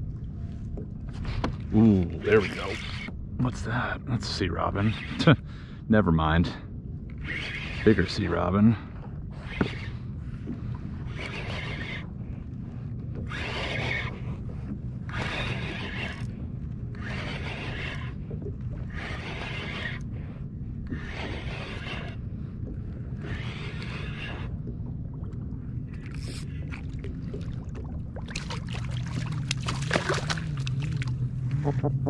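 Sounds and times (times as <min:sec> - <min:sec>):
water splashing around kayak: 0:00.0 - 0:05.6, 0:07.1 - 0:32.0
steady low hum: 0:00.0 - 0:32.0.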